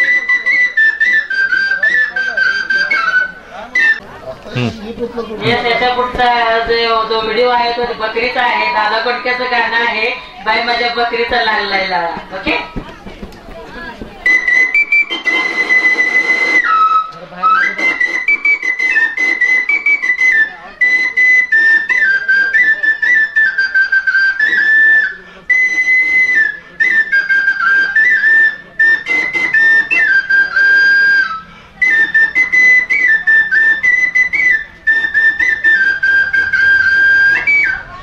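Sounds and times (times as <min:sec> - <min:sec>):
bamboo flute folk melody: 0:00.0 - 0:38.0.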